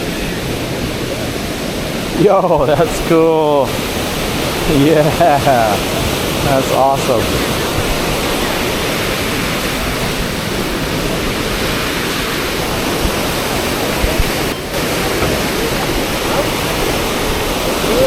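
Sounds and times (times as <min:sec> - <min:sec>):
white water rushing: 0:00.0 - 0:18.0.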